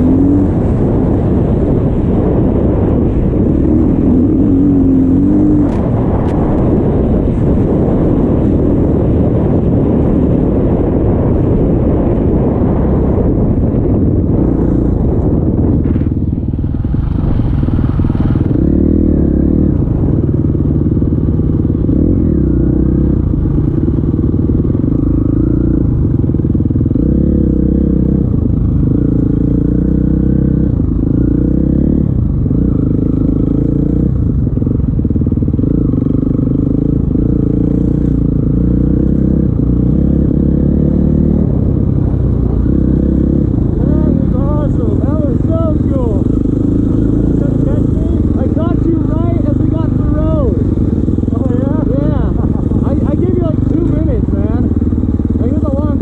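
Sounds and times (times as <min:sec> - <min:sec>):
dirt bike engine revving: 0:00.0 - 0:28.2, 0:35.4 - 0:56.0
wind on microphone: 0:00.0 - 0:56.0.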